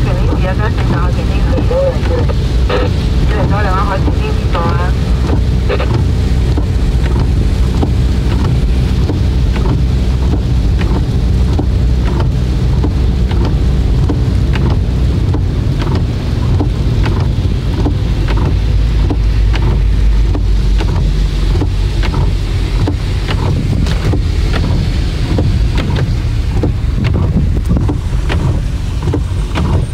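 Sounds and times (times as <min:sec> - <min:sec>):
tyre and engine rumble: 0:00.0 - 0:29.9.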